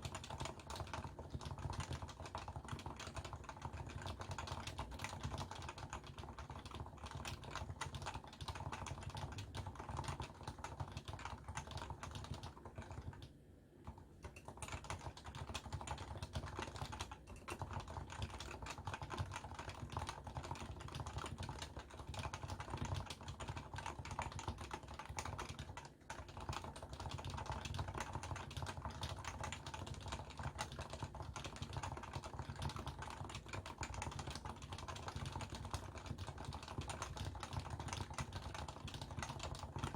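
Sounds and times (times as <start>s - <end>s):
fast typing on a keyboard: 0.0s - 39.9s.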